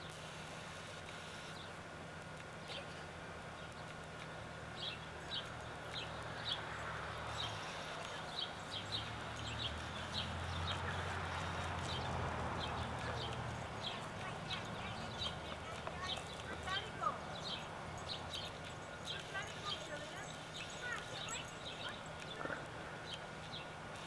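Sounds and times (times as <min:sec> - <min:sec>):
birds chirping: 0:01.1 - 0:01.9, 0:02.5 - 0:24.0.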